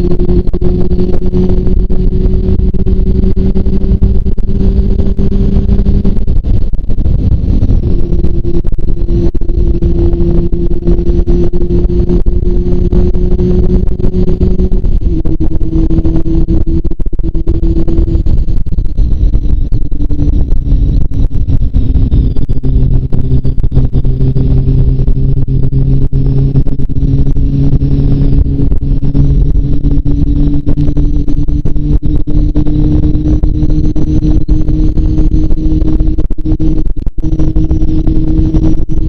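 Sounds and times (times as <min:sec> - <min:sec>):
motorcycle engine running: 0:00.0 - 0:39.0
wind rumble: 0:00.0 - 0:39.0.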